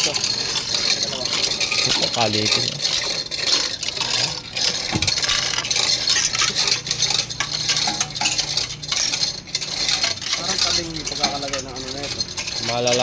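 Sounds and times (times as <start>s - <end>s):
metal tools and bolts clinking: 0.0s - 13.0s.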